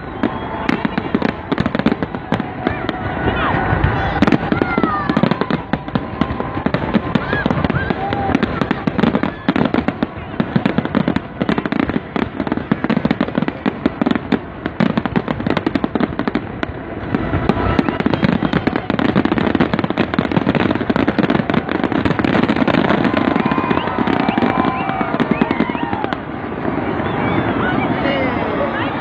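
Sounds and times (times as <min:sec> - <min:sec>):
fireworks crackling bangs: 0:00.0 - 0:29.0.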